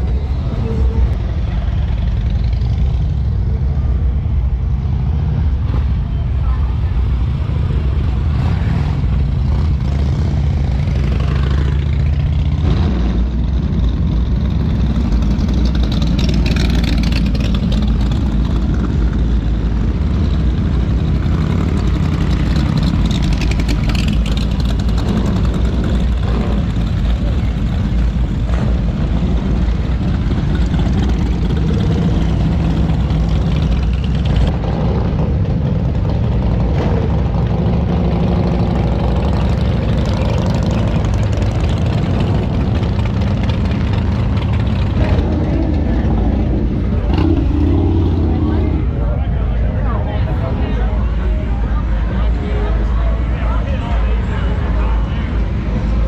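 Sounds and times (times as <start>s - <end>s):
faint voices: 0.0s - 12.5s, 14.4s - 56.0s
motorcycle engines running: 0.0s - 56.0s.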